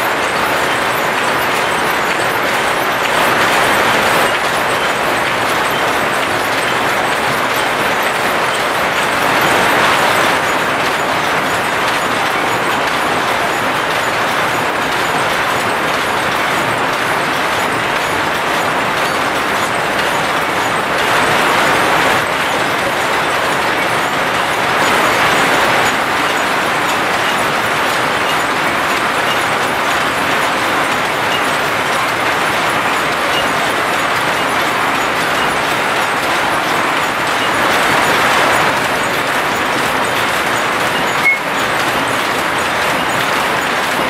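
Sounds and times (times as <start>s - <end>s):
looms clattering: 0.0s - 44.0s.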